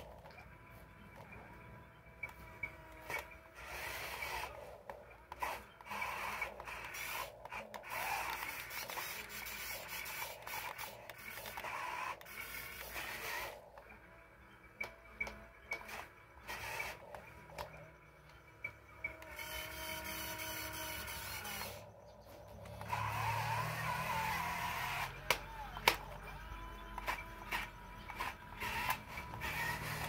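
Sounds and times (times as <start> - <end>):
clicks: 0.0 - 19.7, 21.0 - 30.0
toy electric motors whirring: 0.0 - 30.0.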